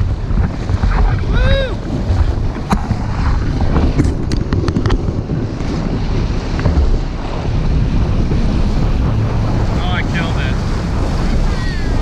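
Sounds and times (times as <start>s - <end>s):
rushing sea water: 0.0s - 12.0s
wind buffeting microphone: 0.0s - 12.0s.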